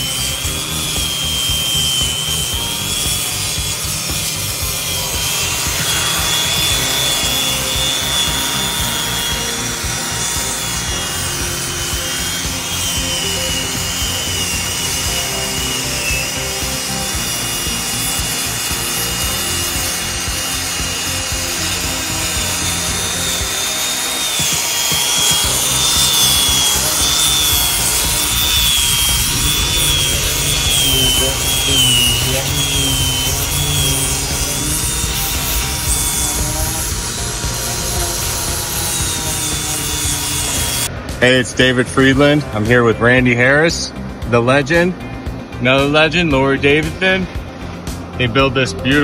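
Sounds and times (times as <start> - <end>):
grinder motor whining: 0.0 - 43.3
sanding wood rasping hiss: 0.0 - 43.4.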